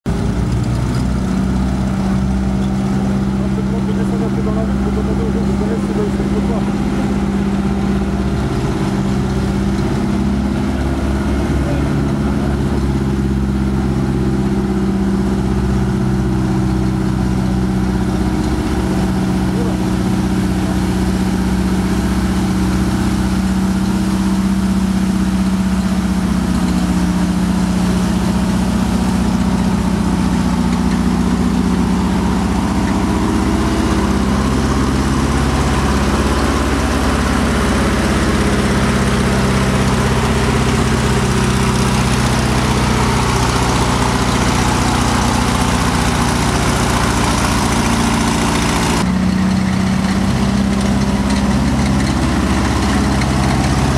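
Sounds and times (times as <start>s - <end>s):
tracked vehicle engine running low: 0.0s - 53.9s.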